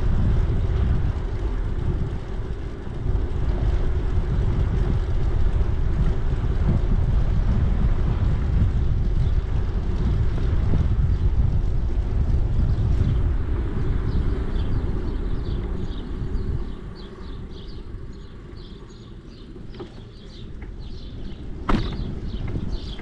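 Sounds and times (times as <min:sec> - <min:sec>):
low rumble: 0:00.0 - 0:23.0
wind buffeting microphone: 0:00.0 - 0:23.0.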